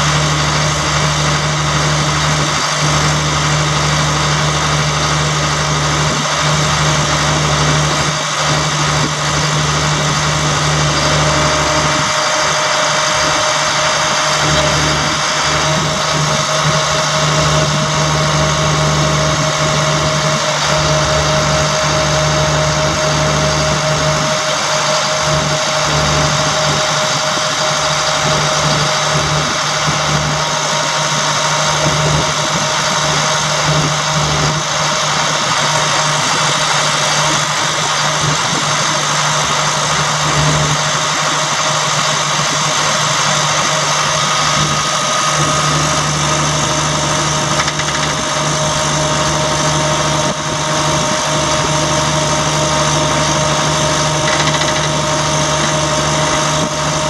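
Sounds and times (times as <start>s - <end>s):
constant whine: 0.0s - 57.0s
diesel engine idling: 0.0s - 57.0s.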